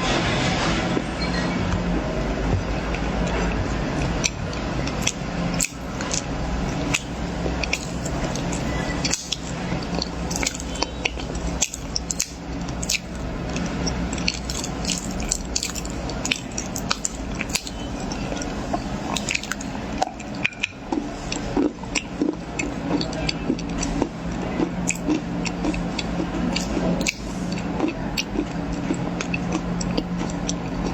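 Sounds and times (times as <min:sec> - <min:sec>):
steady low hum: 0:00.0 - 0:30.9
crunching and chewing corn: 0:02.9 - 0:30.9.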